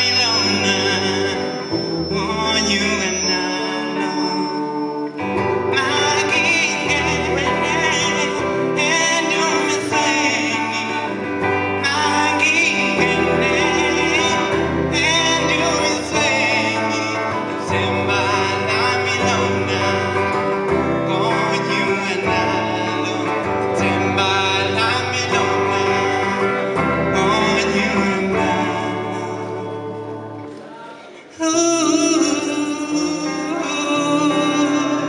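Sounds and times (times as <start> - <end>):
electric guitar: 0.0 - 35.0
man singing into a microphone: 0.0 - 35.0.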